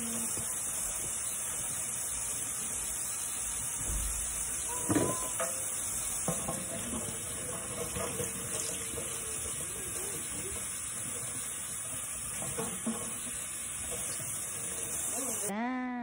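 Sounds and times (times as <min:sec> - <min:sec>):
faucet running into sink: 0:00.0 - 0:15.5.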